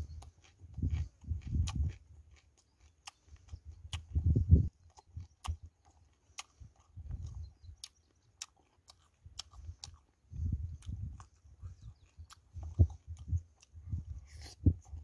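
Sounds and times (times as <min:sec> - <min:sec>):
wet open-mouthed chewing: 0:00.0 - 0:15.0.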